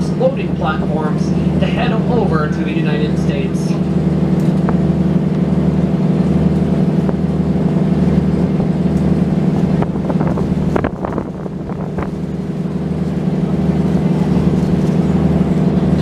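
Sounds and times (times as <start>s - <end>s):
ship engine drone: 0.0s - 16.0s.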